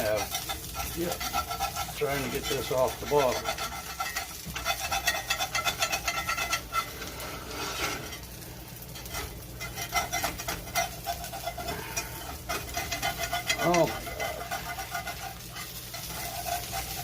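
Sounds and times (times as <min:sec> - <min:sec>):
spatula scraping a cast iron skillet: 0:00.0 - 0:17.0.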